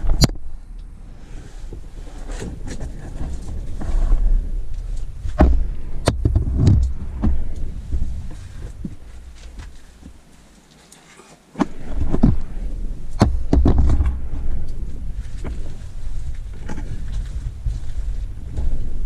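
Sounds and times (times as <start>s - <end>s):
low rumbling of camera handling: 1.6s - 10.9s, 11.6s - 19.0s.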